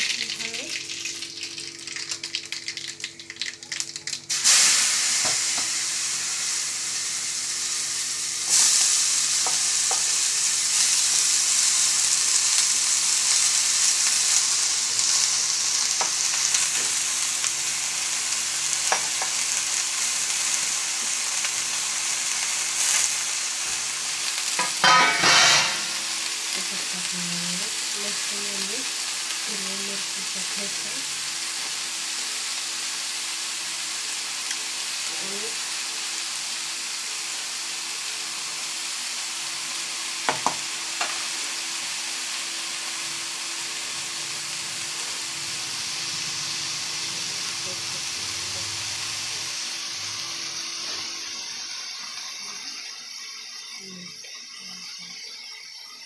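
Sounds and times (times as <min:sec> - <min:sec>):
cabbage sizzling in hot oil: 0:00.0 - 0:56.0.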